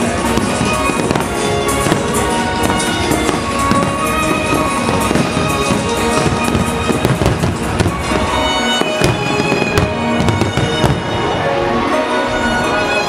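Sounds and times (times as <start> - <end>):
fireworks bangs and crackles: 0.0 - 11.8
loud music with sustained tones: 0.0 - 13.0.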